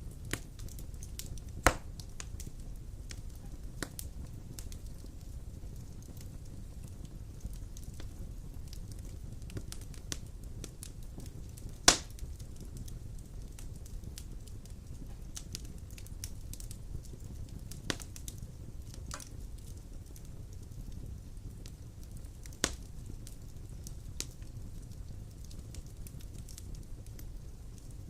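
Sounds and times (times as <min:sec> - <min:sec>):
logs burning with crackles: 0:00.0 - 0:28.0
loud sharp pops of fire: 0:00.0 - 0:28.0.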